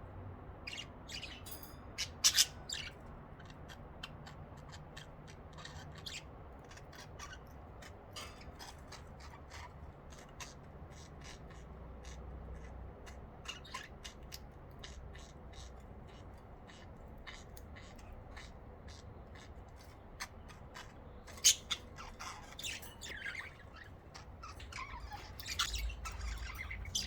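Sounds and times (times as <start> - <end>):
budgerigars chirping and squawking: 0.6 - 27.0.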